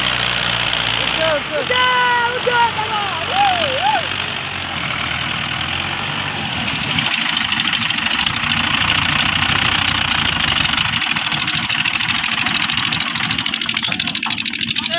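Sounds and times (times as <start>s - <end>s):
tractor diesel engine under load: 0.0s - 14.9s.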